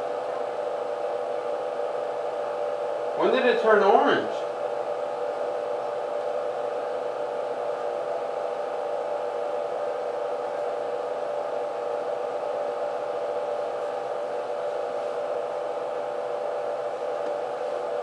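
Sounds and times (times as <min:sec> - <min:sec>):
fan humming and hissing: 0:00.0 - 0:18.0.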